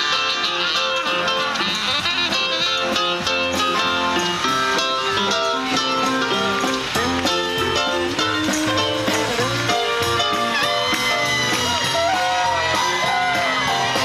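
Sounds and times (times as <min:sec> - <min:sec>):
electric guitar: 0:00.0 - 0:14.0
live band playing: 0:00.0 - 0:14.0.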